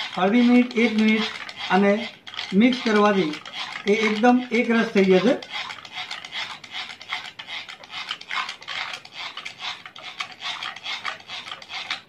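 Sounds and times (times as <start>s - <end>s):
plunger whisk mixing in liquid: 0.0s - 12.0s.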